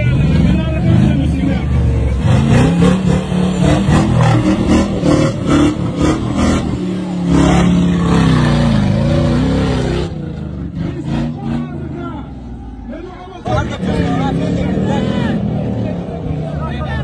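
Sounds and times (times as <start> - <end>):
buggy engine revving: 0.0 - 17.0.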